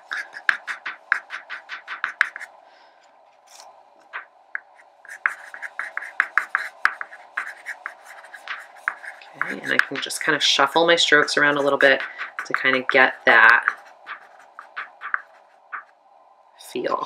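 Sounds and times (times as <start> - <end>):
pastel scratching on paper: 0.0 - 2.5, 4.6 - 15.9.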